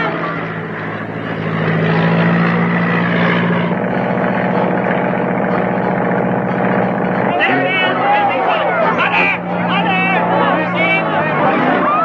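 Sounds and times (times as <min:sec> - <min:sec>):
propeller engine droning overhead: 0:00.0 - 0:12.0.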